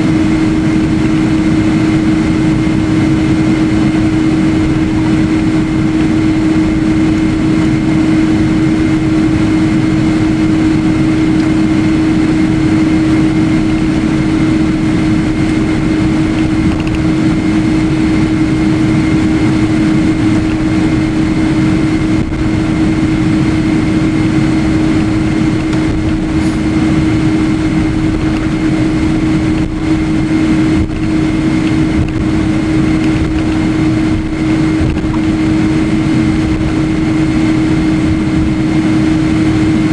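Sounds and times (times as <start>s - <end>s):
high whine: 0.0s - 39.9s
jet engine and airflow noise: 0.0s - 39.9s.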